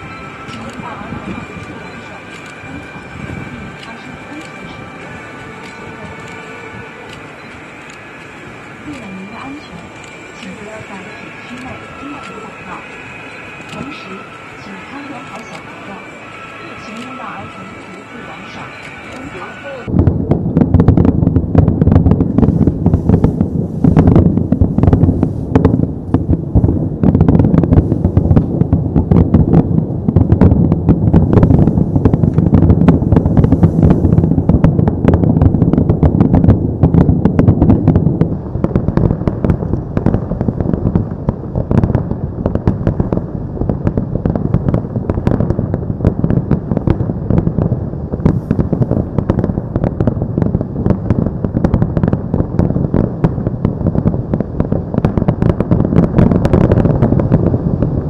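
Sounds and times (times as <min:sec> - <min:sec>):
continuous rumble: 0:00.0 - 0:58.0
fireworks bangs and crackling: 0:00.0 - 0:58.0.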